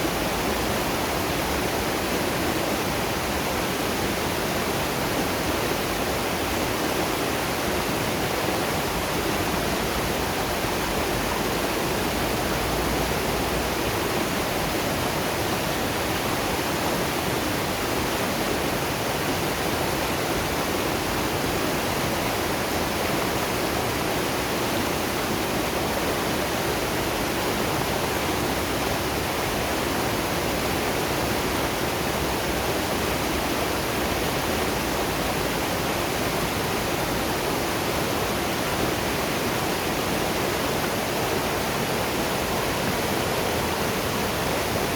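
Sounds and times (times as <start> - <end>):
waterfall and river rushing: 0.0 - 44.9.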